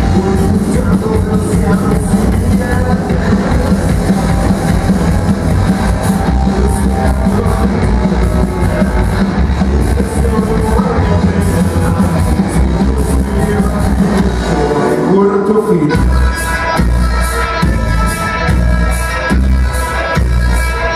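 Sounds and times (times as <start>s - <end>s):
drum kit with cymbal hits: 0.0s - 20.9s
electric guitar: 0.0s - 20.9s.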